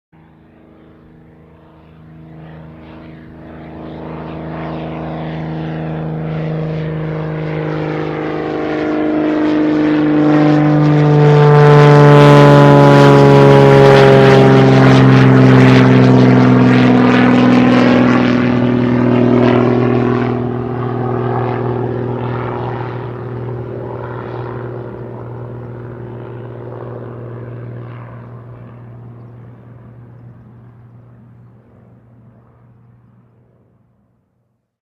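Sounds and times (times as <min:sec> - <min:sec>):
propeller airplane flying overhead: 0:00.1 - 0:34.8.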